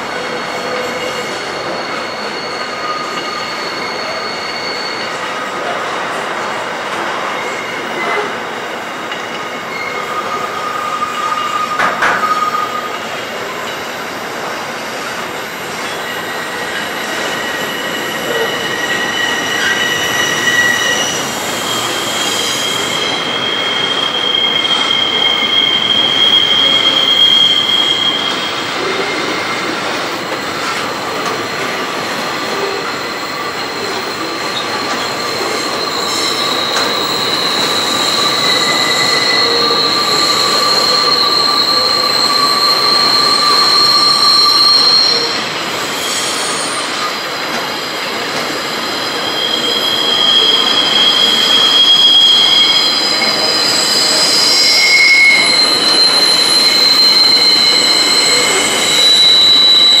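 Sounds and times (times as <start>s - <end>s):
train wheels squealing: 0.0s - 60.0s.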